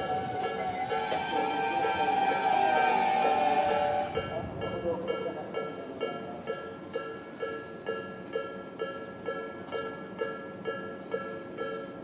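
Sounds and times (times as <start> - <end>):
level crossing warning bells ringing: 0.0 - 12.0.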